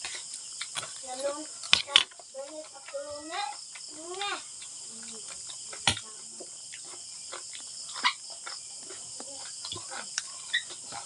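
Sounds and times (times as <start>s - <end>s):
crickets chirring: 0.0s - 11.0s
mouth chewing dried squid: 0.0s - 11.0s.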